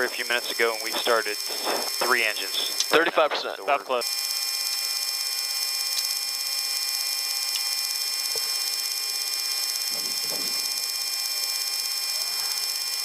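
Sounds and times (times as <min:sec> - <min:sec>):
jet engine hiss and whine: 0:00.0 - 0:13.0.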